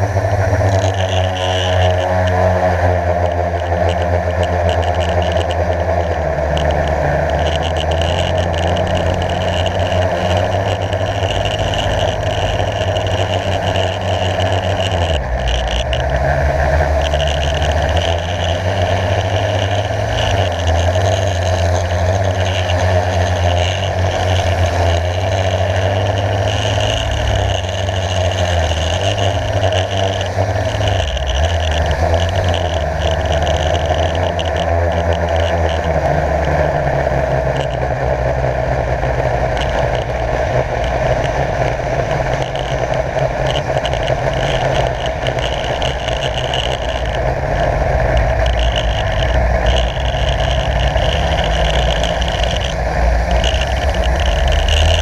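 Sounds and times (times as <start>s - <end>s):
quadcopter motors humming: 0.0s - 55.0s.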